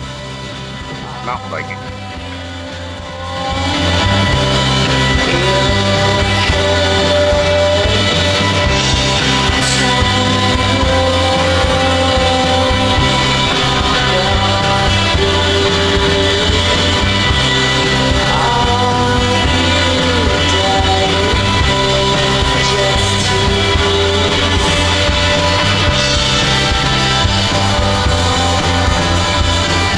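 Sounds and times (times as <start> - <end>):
rock music with singing: 0.0 - 29.9.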